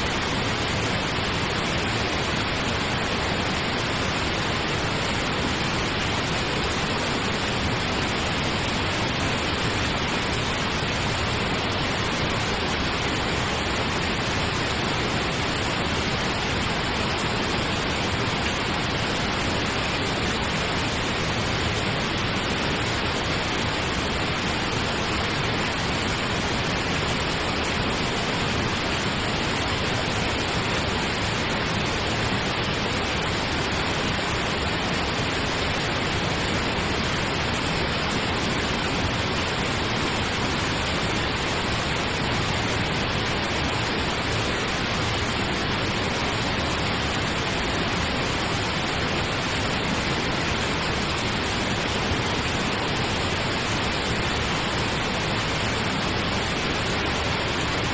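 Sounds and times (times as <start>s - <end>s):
pink noise hiss: 0.0s - 57.9s.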